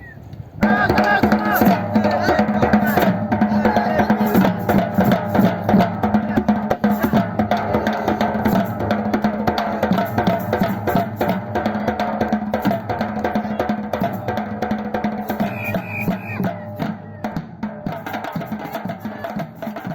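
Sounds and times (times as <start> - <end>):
percussion group drumming: 0.6 - 19.9.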